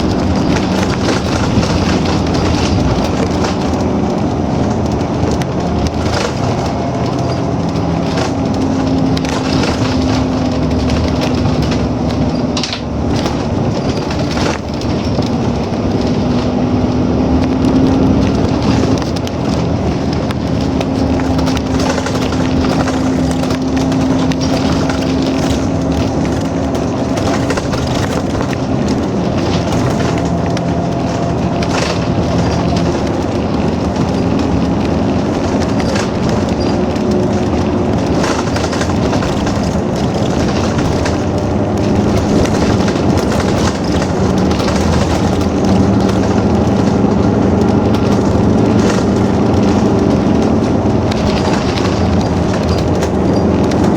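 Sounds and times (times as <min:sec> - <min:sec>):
bus engine and road noise: 0:00.0 - 0:53.9.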